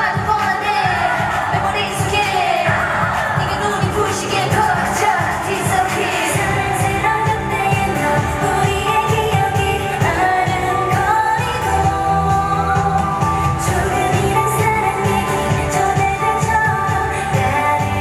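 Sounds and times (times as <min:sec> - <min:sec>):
dance-pop backing track: 0:00.0 - 0:18.0
women singing into microphones: 0:00.0 - 0:18.0.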